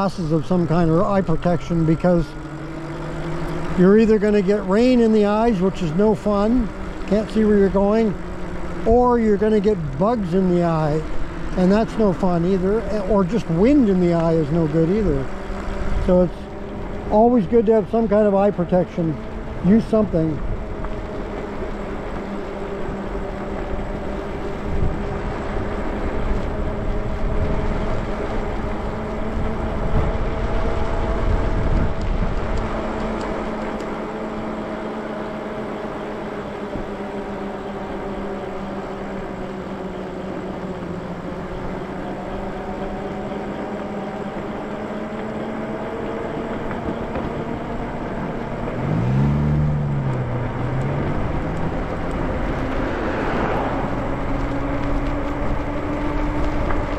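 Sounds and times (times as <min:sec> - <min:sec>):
electric bike motor whining: 0:00.0 - 0:56.9
road noise: 0:00.0 - 0:56.9.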